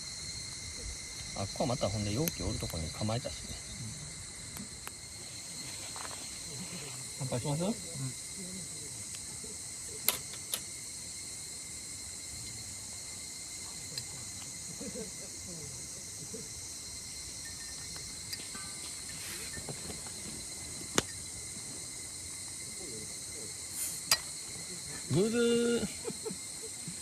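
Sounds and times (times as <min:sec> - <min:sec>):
night insects calling: 0:00.0 - 0:27.0.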